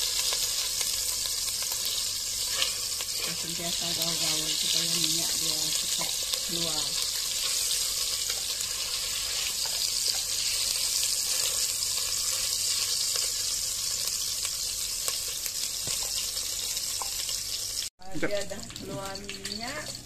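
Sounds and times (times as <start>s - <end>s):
fat sizzling in a pot: 0.0s - 20.0s.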